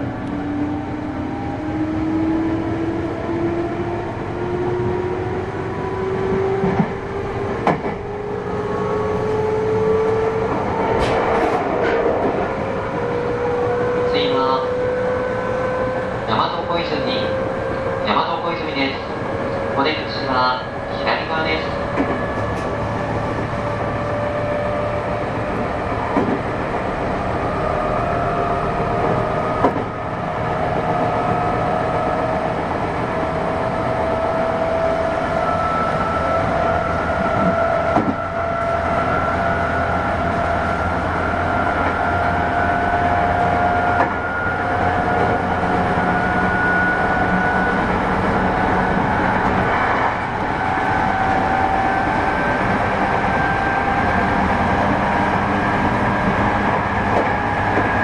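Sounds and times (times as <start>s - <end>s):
wheel-on-rail rumble: 0.0s - 58.0s.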